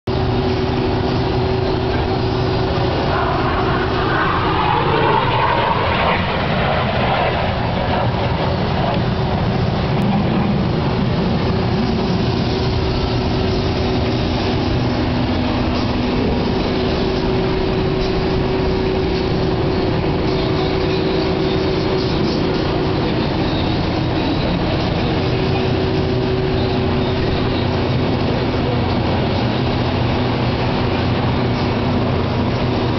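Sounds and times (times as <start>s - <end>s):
aircraft engine noise: 0.0s - 32.9s.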